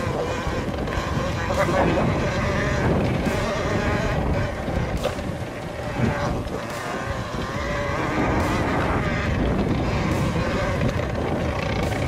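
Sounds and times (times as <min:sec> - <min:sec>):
electric motor whine: 0:00.0 - 0:12.0
tyre rumble and wind noise: 0:00.0 - 0:12.0.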